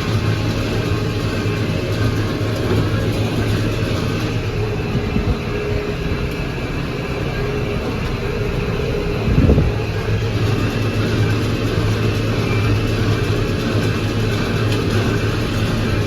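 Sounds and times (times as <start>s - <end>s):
tractor running: 0.0s - 16.0s.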